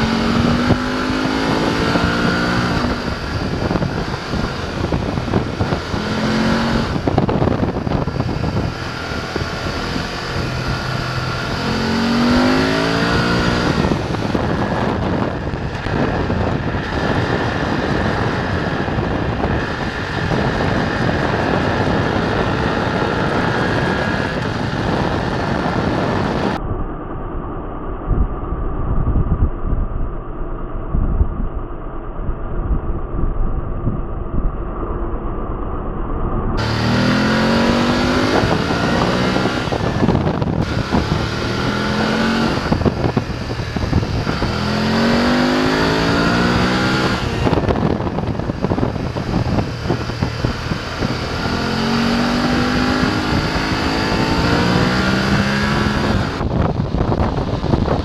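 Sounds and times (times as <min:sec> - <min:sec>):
motorcycle engine revving: 0:00.0 - 0:26.7, 0:36.5 - 0:58.0.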